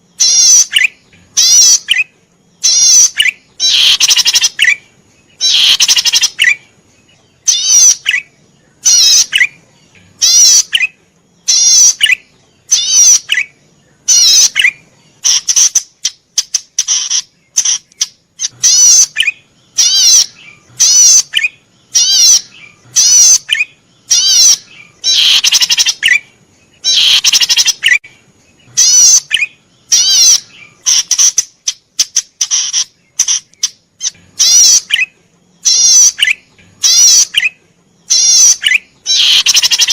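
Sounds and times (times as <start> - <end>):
cisticola harsh trilled calls: 0.0 - 39.9.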